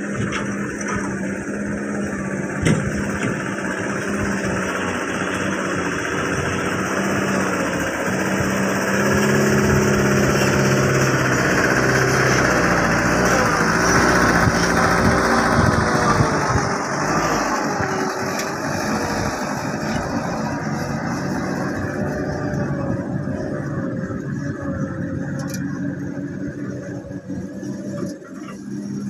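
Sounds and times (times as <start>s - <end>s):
dump truck diesel engine drone: 0.0s - 29.0s.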